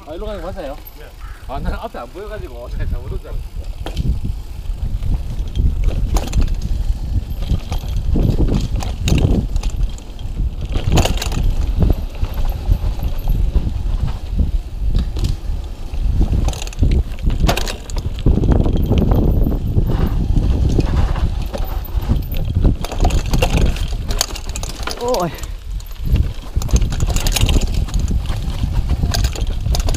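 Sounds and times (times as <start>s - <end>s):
tyres rumbling on dirt: 0.0s - 29.9s
bike frame knocks and rattles: 0.1s - 29.9s
wind on microphone: 1.1s - 29.9s.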